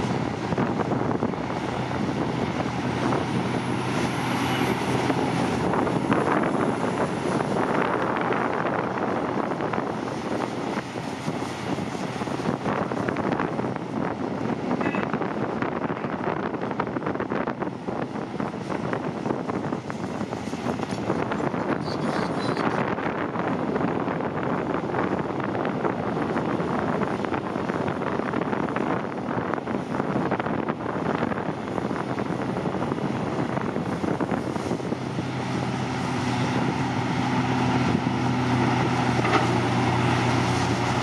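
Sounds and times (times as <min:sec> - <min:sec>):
excavator working: 0:00.0 - 0:41.0.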